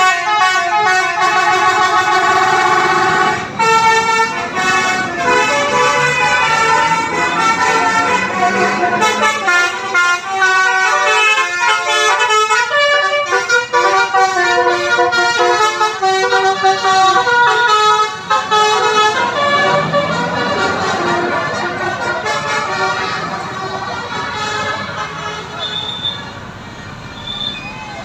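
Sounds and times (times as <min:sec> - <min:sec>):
musical bus air horn melody: 0:00.0 - 0:26.3.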